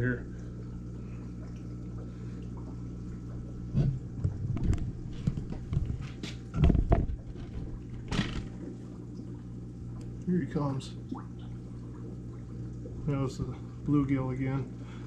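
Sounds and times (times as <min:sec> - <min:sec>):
aquarium equipment humming: 0:00.0 - 0:15.0.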